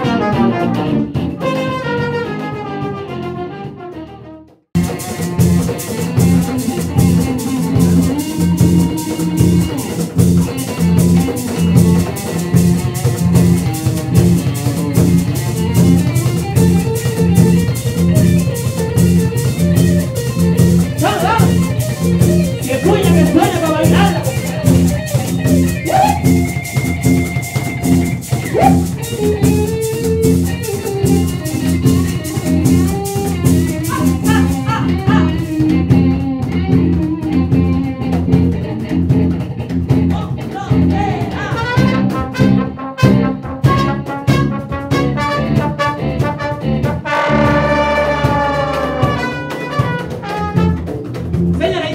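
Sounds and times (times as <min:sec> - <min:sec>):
congas: 0:00.0 - 0:51.9
electric bass: 0:00.0 - 0:51.9
guitar: 0:00.0 - 0:51.9.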